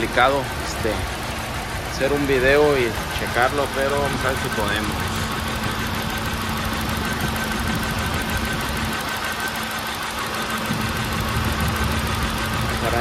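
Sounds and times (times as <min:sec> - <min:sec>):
car engine idling with misfire: 0:00.0 - 0:13.0.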